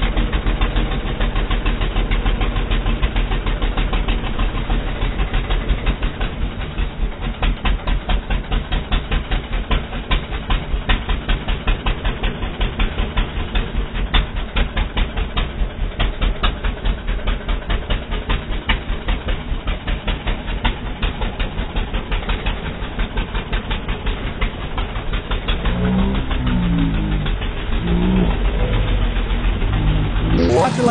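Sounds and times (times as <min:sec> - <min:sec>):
quad bike engine running: 0:00.0 - 0:30.9.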